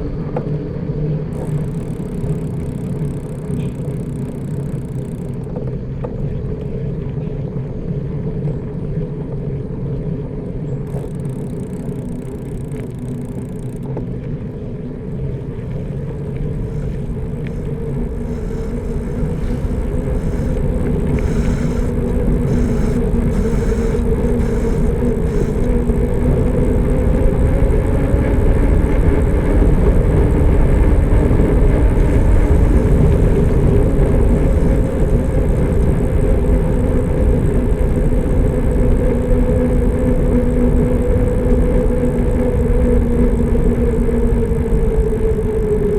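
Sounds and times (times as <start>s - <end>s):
low rumble with humming drone: 0.0s - 45.9s
wind noise on microphone: 0.0s - 45.9s.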